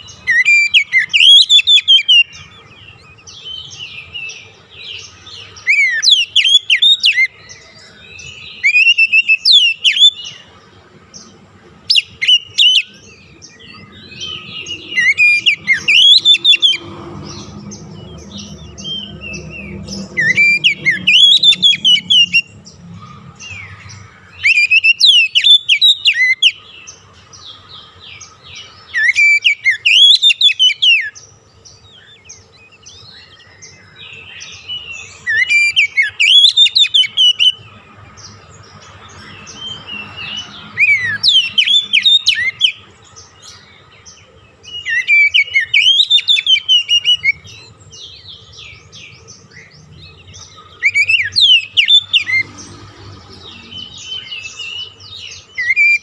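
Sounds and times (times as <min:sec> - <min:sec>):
bird whistling song: 0:00.0 - 0:10.5, 0:11.8 - 0:22.8, 0:23.4 - 0:52.7, 0:53.3 - 0:56.0
soft bird chirps: 0:00.0 - 0:56.0.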